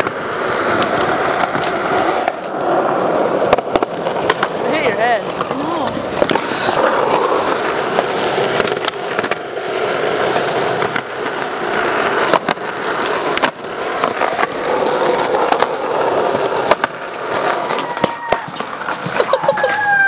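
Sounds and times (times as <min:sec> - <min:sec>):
skateboard clacking on ground: 0:00.0 - 0:20.0
skateboard wheels rolling on concrete: 0:00.0 - 0:20.0.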